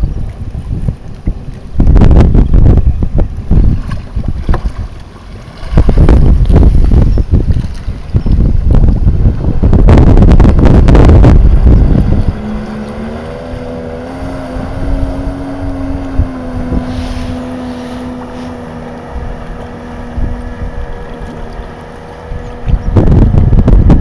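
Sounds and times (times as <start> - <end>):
jet ski engine: 0.0 - 24.0
wind buffeting microphone: 0.0 - 24.0.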